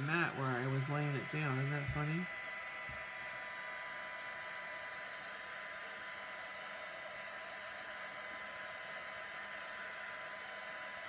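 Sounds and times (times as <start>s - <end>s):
handheld dryer blowing: 0.0s - 11.0s.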